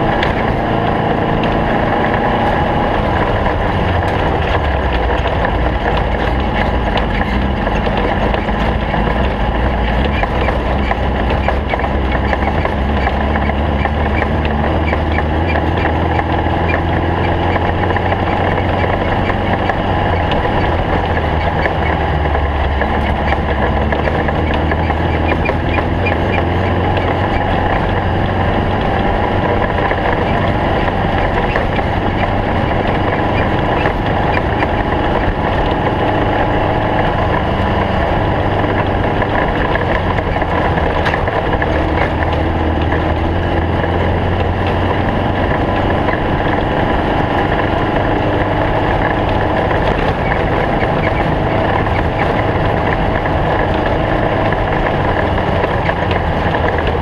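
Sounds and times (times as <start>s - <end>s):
snowmobile engine droning: 0.0s - 57.0s.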